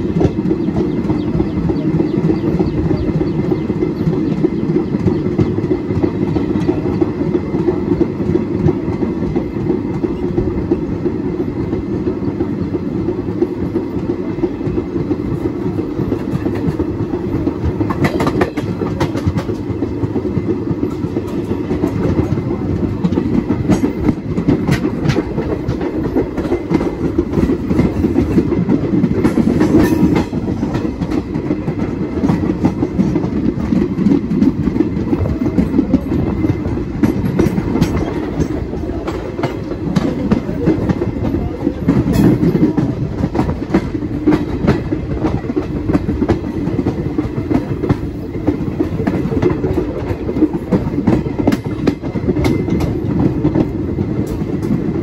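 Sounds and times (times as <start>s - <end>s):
train rumbling on track: 0.0s - 55.0s
wheels clacking over rail joints: 0.0s - 55.0s.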